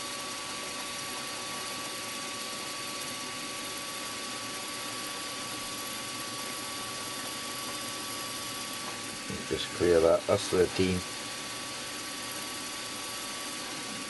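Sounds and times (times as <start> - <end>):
milling machine spindle whine: 0.0 - 14.0.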